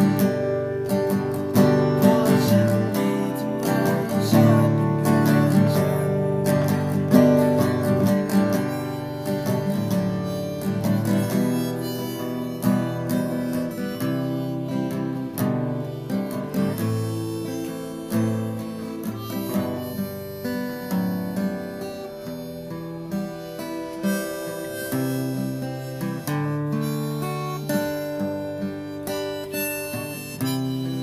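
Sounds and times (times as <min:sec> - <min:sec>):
acoustic guitar strumming: 0:00.0 - 0:31.0
harmonica melody: 0:00.0 - 0:31.0.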